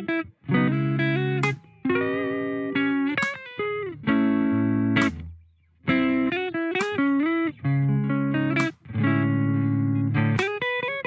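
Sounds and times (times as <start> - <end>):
electric guitar chords: 0.0 - 5.3, 5.9 - 11.0.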